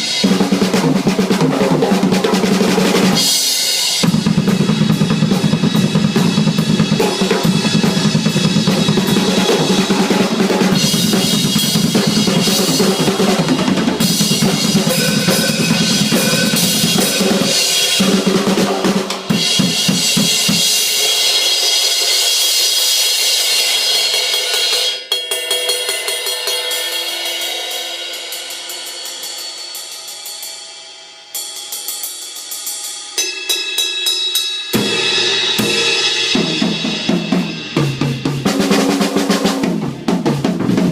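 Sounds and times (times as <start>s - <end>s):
drum kit groove: 0.0s - 30.6s, 31.4s - 40.9s
cymbals and hi-hat: 0.0s - 40.9s.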